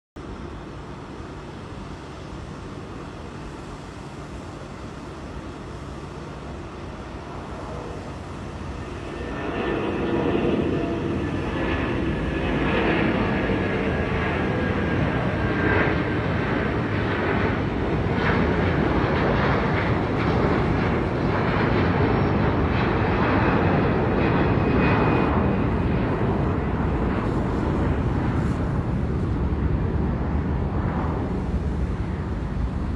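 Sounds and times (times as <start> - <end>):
jet engines roaring: 0.4 - 32.9.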